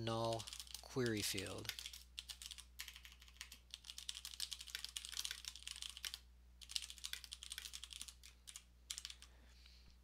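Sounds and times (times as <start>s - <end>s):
typing on computer keyboard: 0.2s - 9.3s.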